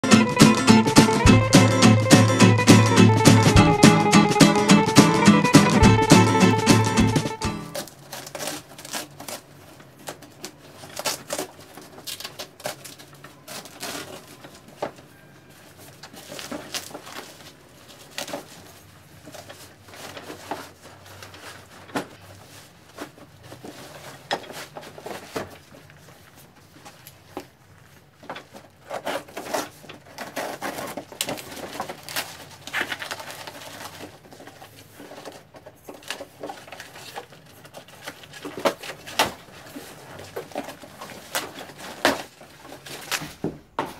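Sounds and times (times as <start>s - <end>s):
plastic sack rustling and tearing: 7.7s - 43.8s.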